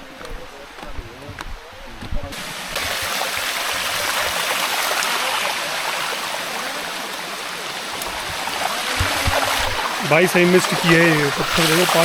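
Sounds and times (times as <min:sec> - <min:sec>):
waterfall rushing over rocks: 0:02.3 - 0:12.0.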